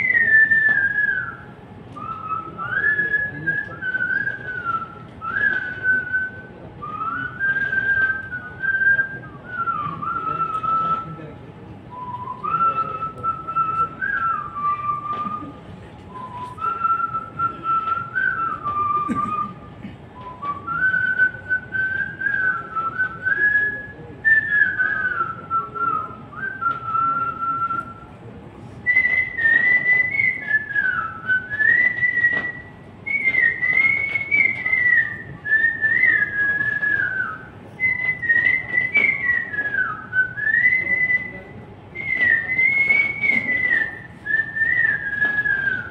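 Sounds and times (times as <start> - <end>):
man whistling melody: 0.0 - 11.3, 11.9 - 45.9.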